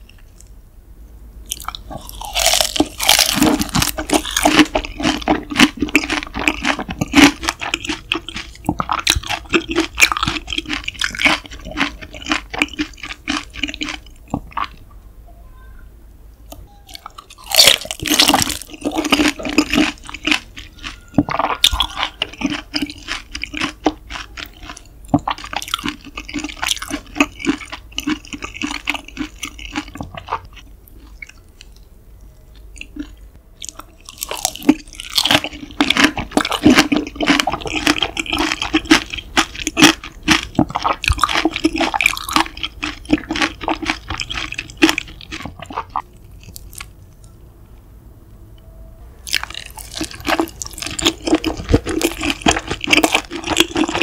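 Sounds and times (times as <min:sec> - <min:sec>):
close wet chewing: 0:01.5 - 0:14.8, 0:16.9 - 0:31.8, 0:32.8 - 0:47.2, 0:49.3 - 0:54.0.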